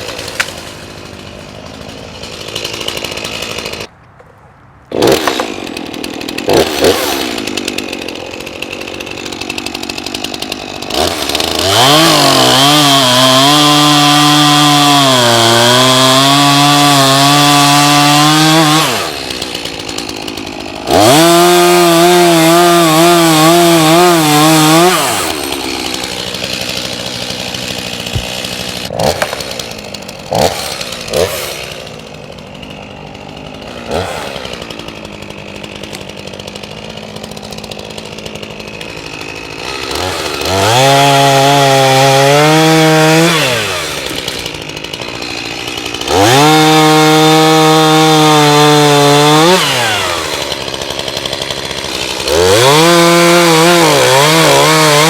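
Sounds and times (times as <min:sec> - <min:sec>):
chainsaw idling: 0:00.0 - 0:03.9, 0:04.9 - 0:55.0
chainsaw revving at full throttle: 0:00.0 - 0:03.9, 0:04.9 - 0:55.0.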